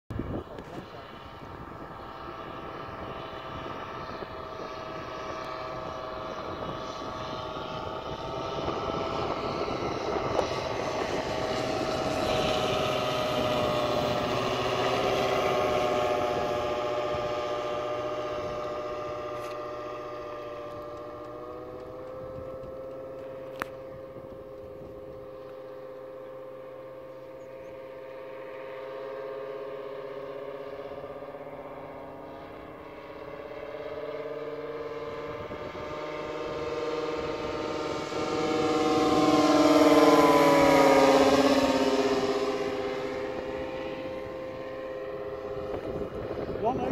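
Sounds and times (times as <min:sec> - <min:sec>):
model plane engine flyby: 0:00.1 - 0:46.9.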